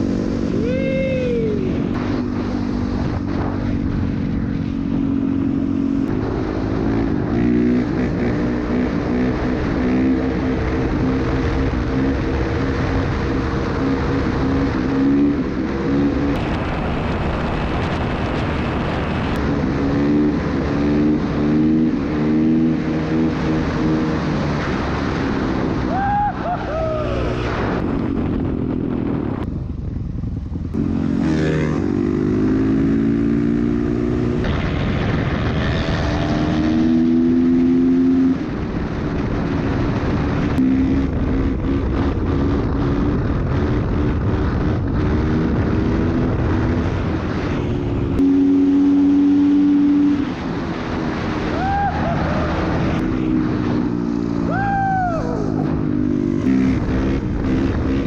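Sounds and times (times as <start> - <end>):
dirt bike engines accelerating: 0.0 - 58.0.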